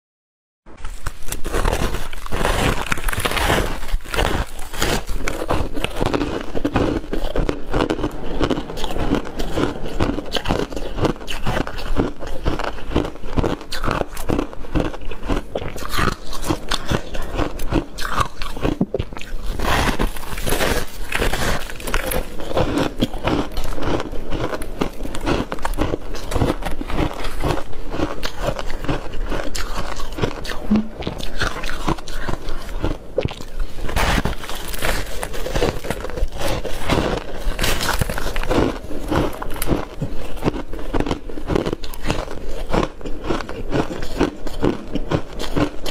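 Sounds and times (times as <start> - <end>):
crunchy chewing of frost: 0.7 - 45.9.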